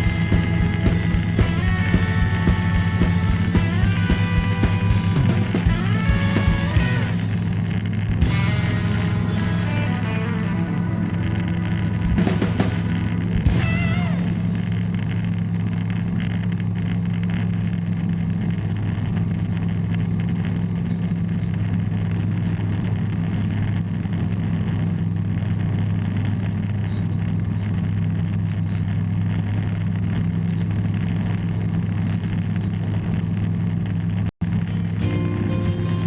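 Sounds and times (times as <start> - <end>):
light aircraft engine drone: 0.0 - 35.1.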